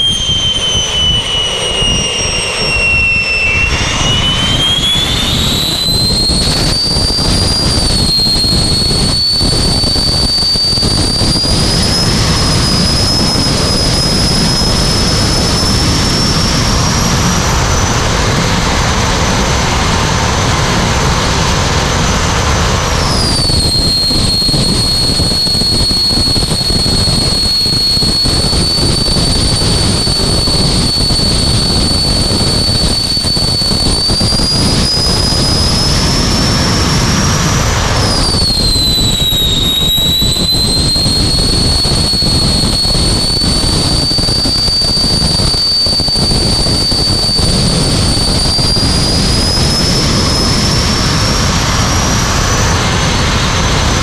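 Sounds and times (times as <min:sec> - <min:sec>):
jet engine rush and turbine whine: 0:00.0 - 0:54.0.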